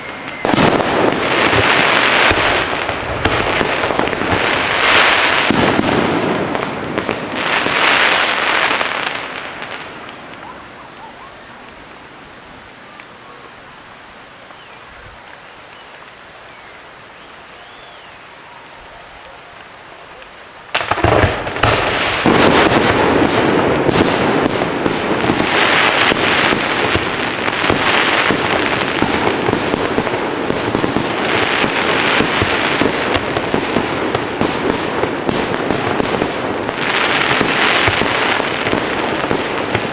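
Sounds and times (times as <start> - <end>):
fireworks bangs and crackling: 0.0 - 13.6, 14.2 - 39.9.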